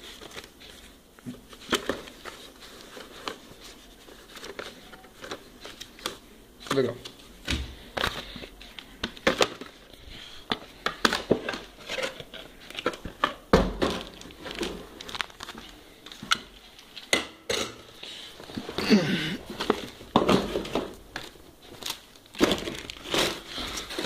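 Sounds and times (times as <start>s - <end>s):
plastic wrapping crinkling: 0.0s - 17.1s, 18.0s - 24.0s.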